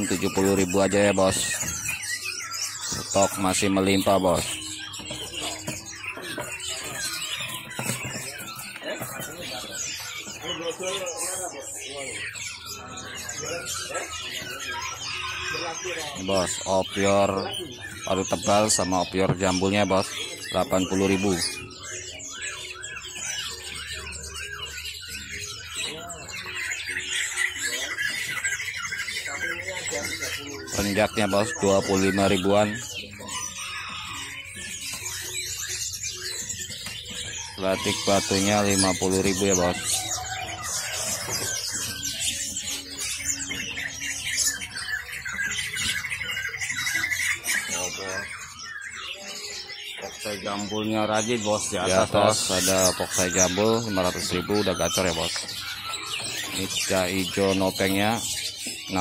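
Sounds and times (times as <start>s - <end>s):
bird trill: 0.0s - 59.0s
songbirds chirping: 0.0s - 59.0s.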